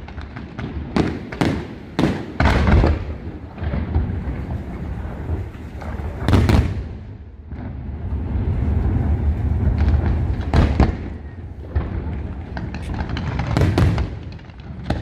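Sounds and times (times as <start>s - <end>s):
deep rumble of explosions: 0.0s - 15.0s
firework shells booming: 0.0s - 15.0s.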